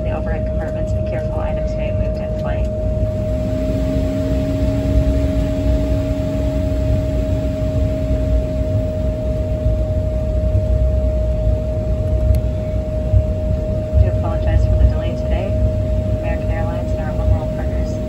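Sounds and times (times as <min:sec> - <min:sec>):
jet engine hum and rumble: 0:00.0 - 0:18.0
lower whine: 0:00.0 - 0:18.0
mid-pitched whine: 0:00.0 - 0:18.0.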